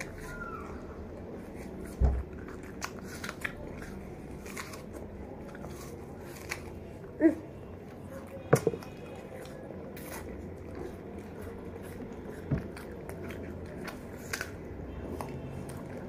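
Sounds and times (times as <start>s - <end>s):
children crunching apples: 0.0s - 16.0s.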